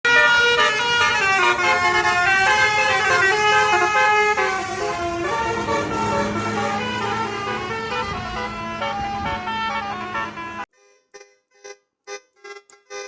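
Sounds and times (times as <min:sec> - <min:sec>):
multi-tone air horn tune: 0:00.1 - 0:13.0.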